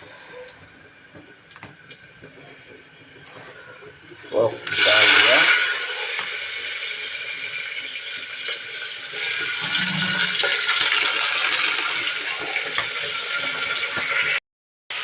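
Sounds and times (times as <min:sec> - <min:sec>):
meat sizzling in fat: 0:00.1 - 0:14.4.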